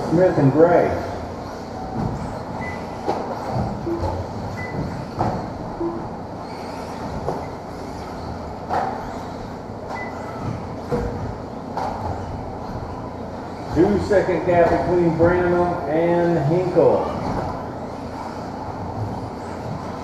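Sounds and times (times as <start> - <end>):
rc car motors humming: 0.0 - 20.0.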